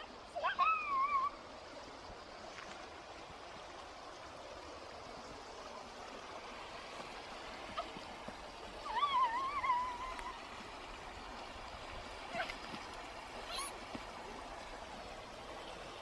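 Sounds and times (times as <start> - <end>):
stream running water: 0.0 - 16.0.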